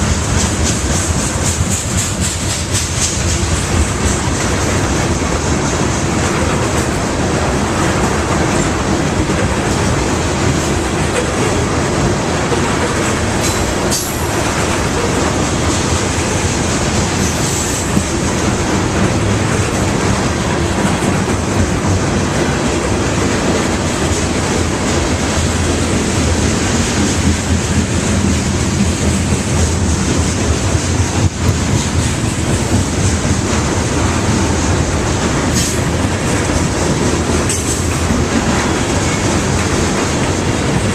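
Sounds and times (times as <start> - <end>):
freight train rolling past: 0.0 - 40.9
wheels clacking over rail joints: 0.0 - 40.9.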